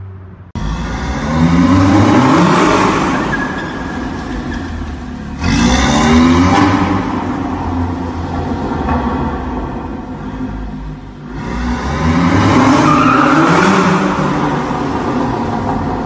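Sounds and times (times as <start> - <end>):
car engine accelerating: 0.6 - 16.0.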